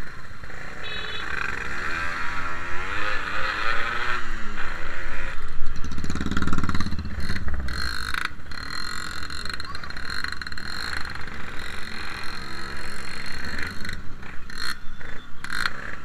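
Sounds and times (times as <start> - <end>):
two-stroke motorcycle engine: 0.0 - 16.0.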